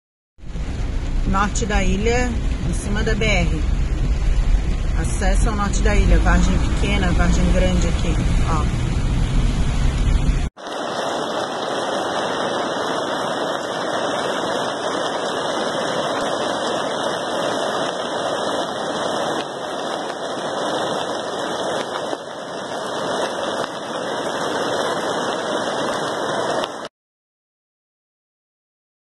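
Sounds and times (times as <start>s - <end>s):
floodwater rushing: 0.4s - 26.9s.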